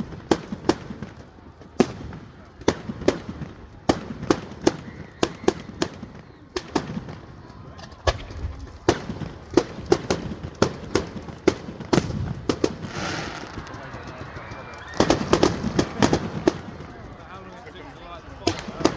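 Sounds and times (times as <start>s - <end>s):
fireworks banging: 0.0s - 18.9s.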